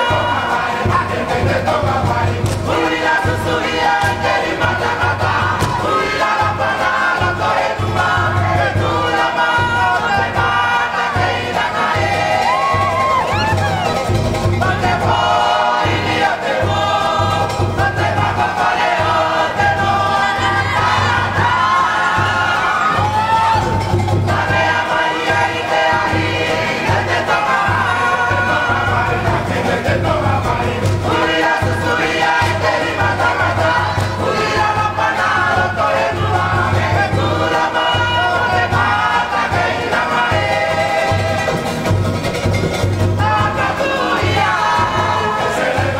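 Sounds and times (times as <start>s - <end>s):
choir singing in parts: 0.0s - 45.9s
instrumental accompaniment with beat: 0.0s - 45.9s
string band playing: 0.0s - 45.9s.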